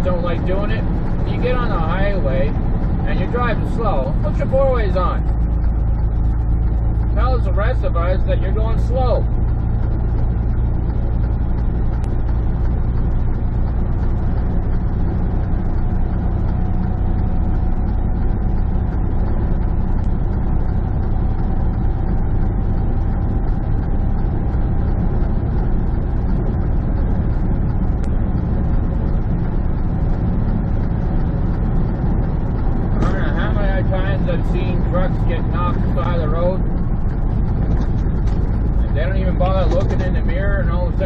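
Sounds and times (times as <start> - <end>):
road noise: 0.0 - 41.0
truck engine drone: 0.0 - 41.0.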